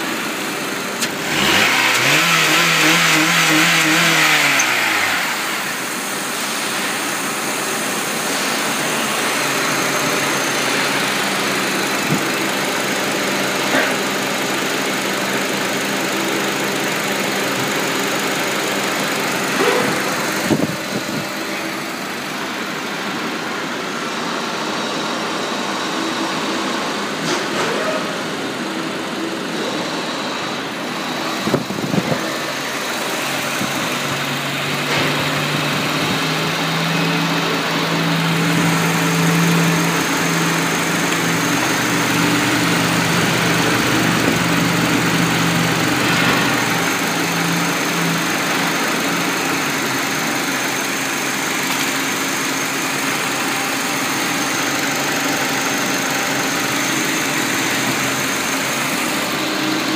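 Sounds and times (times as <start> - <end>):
car engine revving and idling: 0.0 - 59.9.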